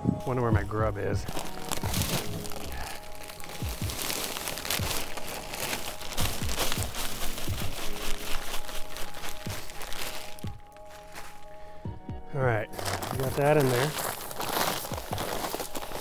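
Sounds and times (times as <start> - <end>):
plastic bag crinkling: 1.0 - 11.8, 12.6 - 16.0.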